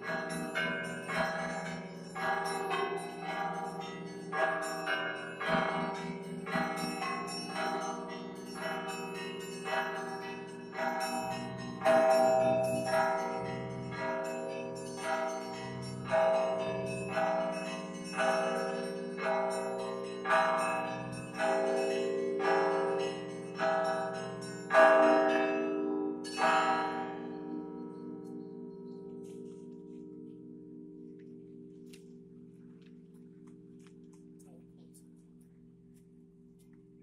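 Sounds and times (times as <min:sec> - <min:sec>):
church bells pealing: 0:00.0 - 0:31.7
hum of large bells: 0:00.0 - 0:36.6.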